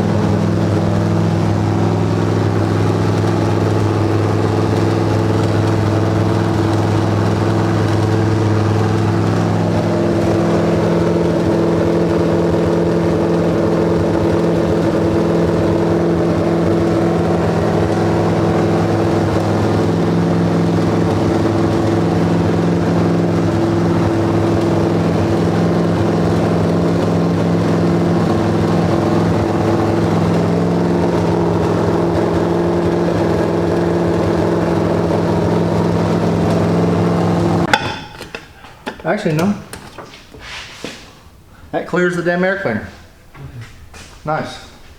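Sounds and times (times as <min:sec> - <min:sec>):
race car engine at fast idle: 0:00.0 - 0:37.8.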